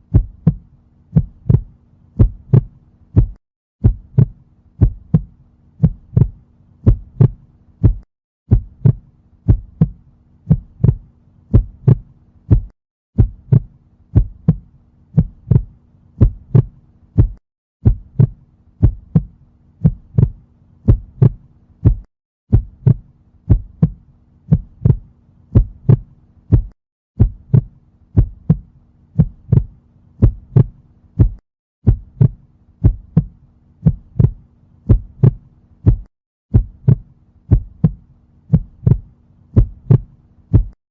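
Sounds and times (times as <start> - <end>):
heartbeat thumps: 0.0 - 40.8.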